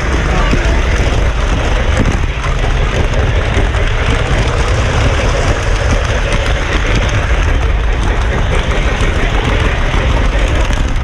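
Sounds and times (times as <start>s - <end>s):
model train rumbling on track: 0.0s - 11.0s.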